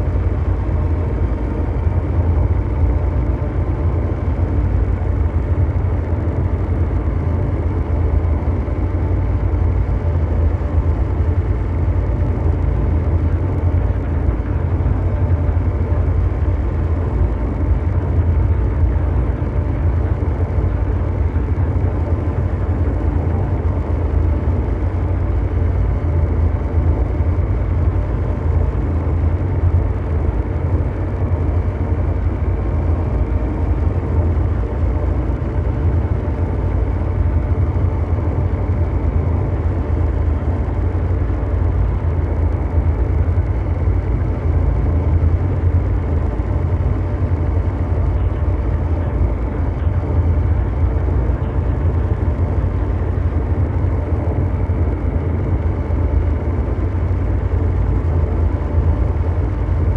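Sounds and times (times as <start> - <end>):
deep mechanical drone: 0.0 - 59.9
faint steady tones: 0.0 - 59.9
steady low hum: 0.0 - 59.9.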